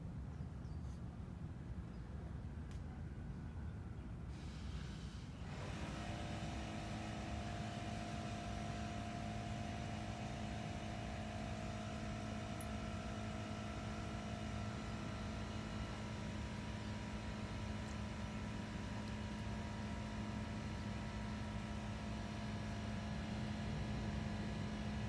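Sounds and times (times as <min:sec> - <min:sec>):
steady motor hum: 0:03.0 - 0:25.0.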